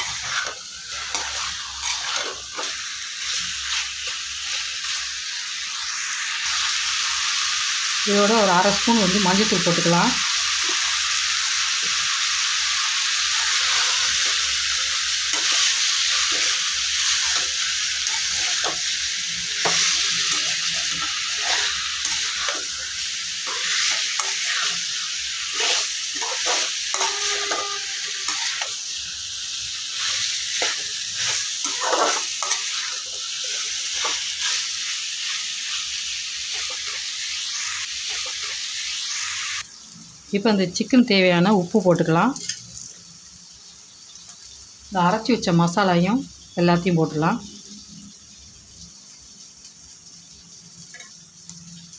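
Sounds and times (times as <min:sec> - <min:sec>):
chicken sizzling in a pan: 0:00.0 - 0:51.9.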